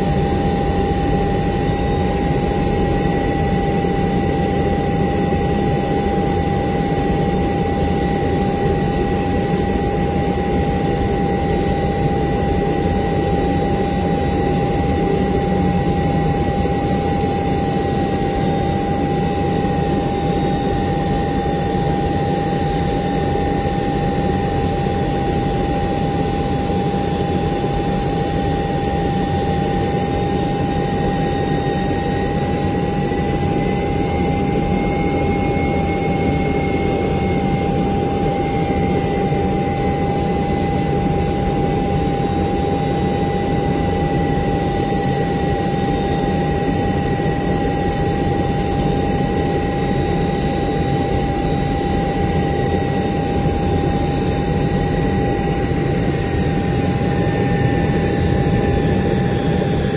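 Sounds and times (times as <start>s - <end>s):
high engine whine: 0.0s - 59.9s
jet engine drone: 0.0s - 59.9s.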